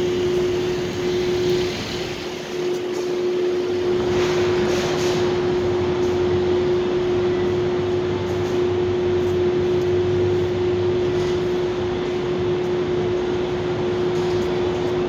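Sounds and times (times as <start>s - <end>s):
constant mechanical hum: 0.0s - 15.0s.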